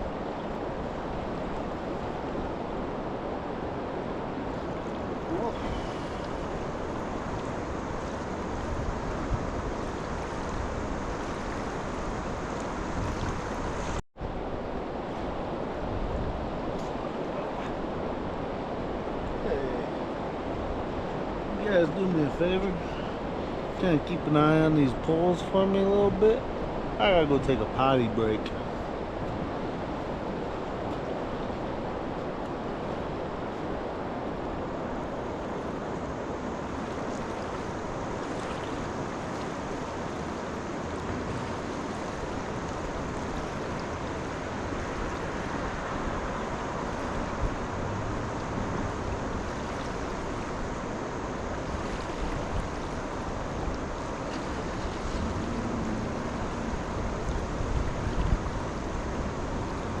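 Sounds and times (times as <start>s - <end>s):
wind on microphone: 0.0s - 23.8s, 28.4s - 60.0s
river water rushing: 0.0s - 60.0s.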